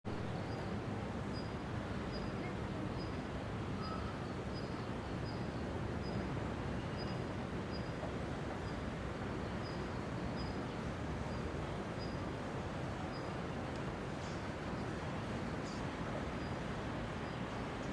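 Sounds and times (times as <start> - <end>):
low background noise: 0.1 - 17.9.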